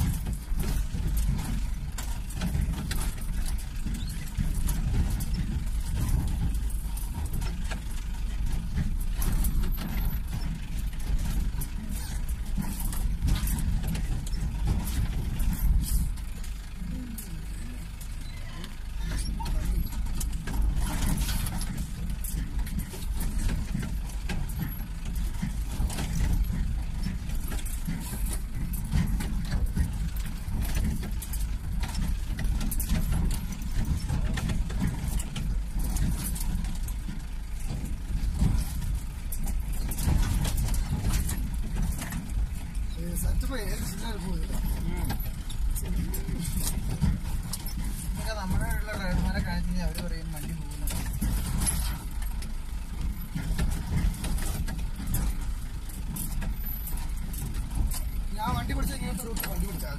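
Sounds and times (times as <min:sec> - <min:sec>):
truck engine rumble: 0:00.0 - 0:59.9
truck knocking and rattling: 0:00.0 - 0:59.9.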